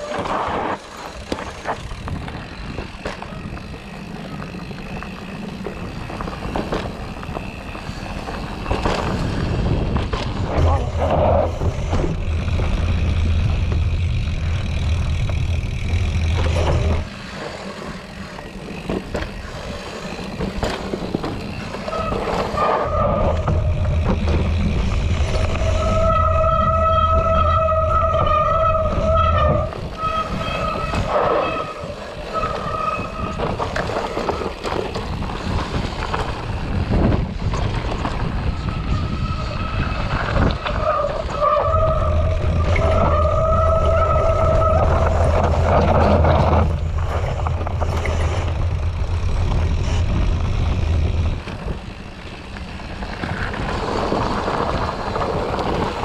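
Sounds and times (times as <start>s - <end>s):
humming whine from bike: 0.0s - 56.0s
tyres rumbling over rough ground: 0.0s - 56.0s
wind noise: 0.0s - 56.0s.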